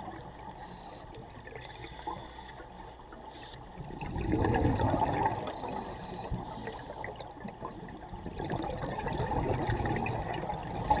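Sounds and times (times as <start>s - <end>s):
underwater bubbles gurgling: 0.0s - 11.0s.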